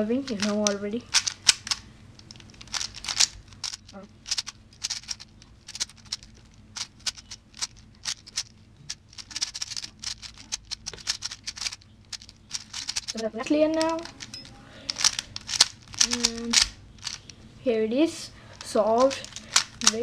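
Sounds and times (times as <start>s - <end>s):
plastic puzzle cube clicking: 0.2s - 17.4s, 18.6s - 20.0s.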